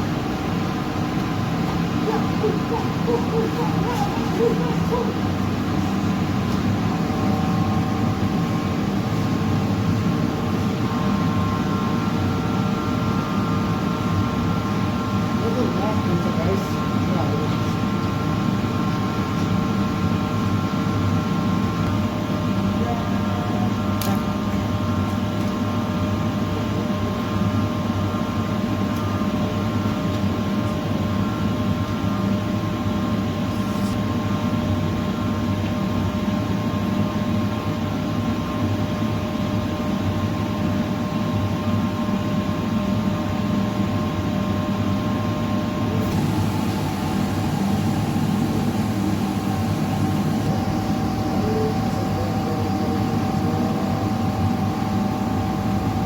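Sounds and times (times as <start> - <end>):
welding machine hum and fan: 0.0 - 56.0.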